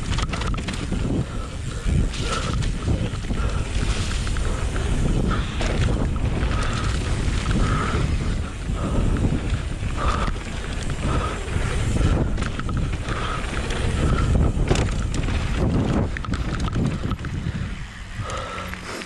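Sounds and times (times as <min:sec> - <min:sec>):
bike rattling and knocking: 0:00.0 - 0:19.0
tyres crunching over gravel: 0:00.0 - 0:19.0
wind noise on microphone: 0:00.0 - 0:19.0.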